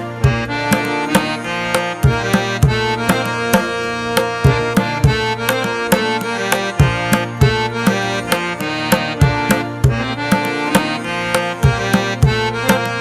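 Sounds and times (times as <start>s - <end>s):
held melody: 0.0s - 13.0s.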